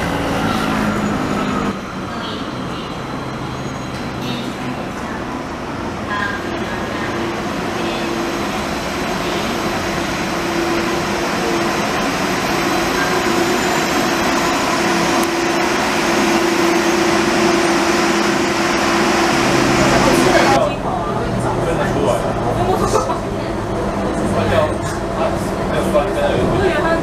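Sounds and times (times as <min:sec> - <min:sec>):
light rail train rumbling: 0:00.0 - 0:27.0.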